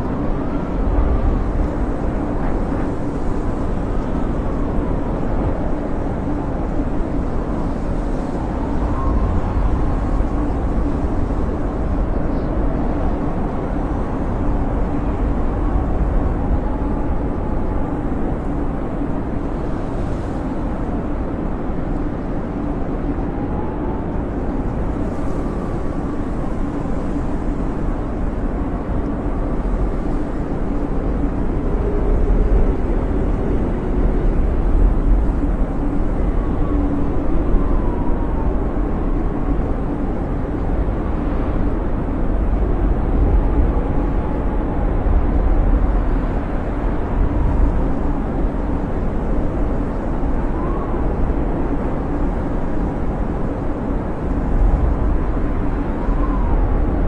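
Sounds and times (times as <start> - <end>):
blizzard wind howling: 0.0 - 57.0
faint high wind whistles: 0.0 - 57.0.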